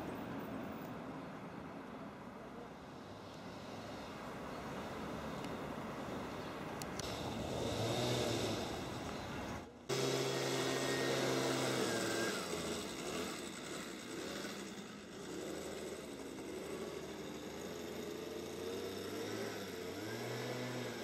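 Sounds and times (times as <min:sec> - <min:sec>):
distant vehicle engine hum: 0:00.0 - 0:21.0
outdoor background noise: 0:00.0 - 0:21.0.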